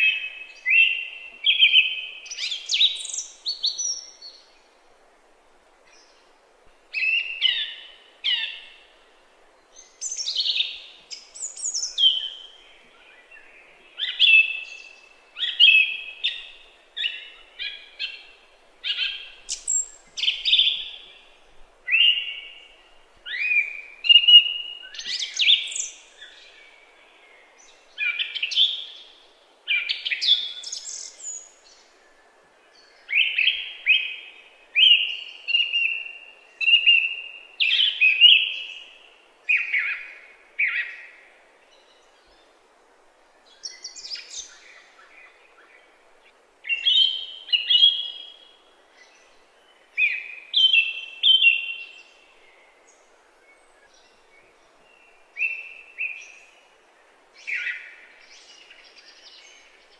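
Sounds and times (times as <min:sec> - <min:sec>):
bird song: 0:00.0 - 0:04.8, 0:05.8 - 0:42.6, 0:43.2 - 0:59.9.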